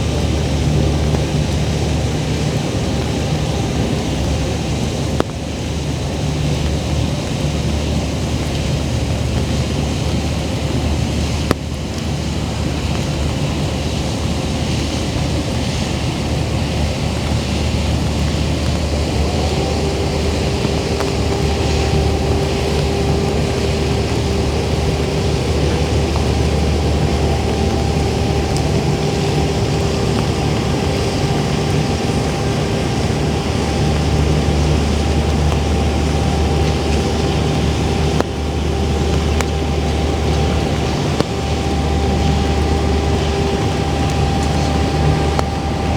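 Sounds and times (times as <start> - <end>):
machine hum: 0.0 - 45.9.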